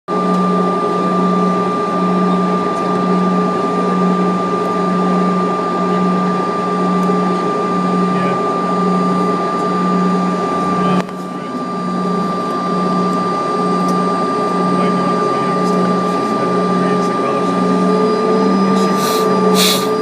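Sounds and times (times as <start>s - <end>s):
high jet cabin whine: 0.1s - 20.0s
pulsing low drone: 0.1s - 20.0s.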